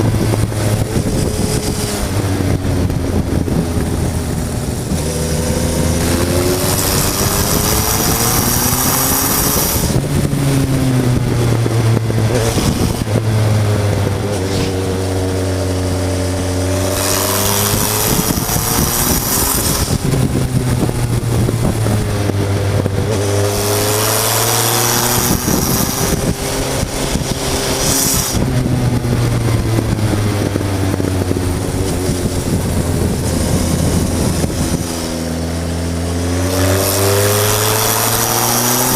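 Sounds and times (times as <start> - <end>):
motorcycle engine revving: 0.0 - 38.9
rushing wind noise: 0.0 - 38.9.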